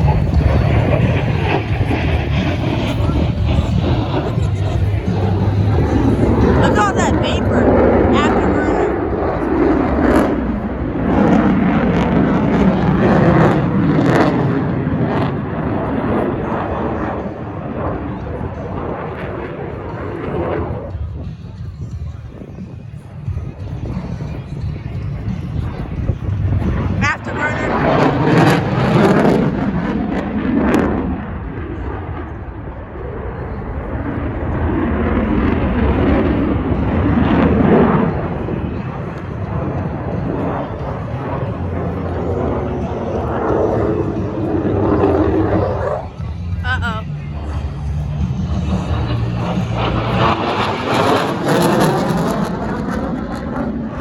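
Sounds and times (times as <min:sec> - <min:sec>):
fighter jet roaring past: 0:00.0 - 0:21.5, 0:23.6 - 0:54.0.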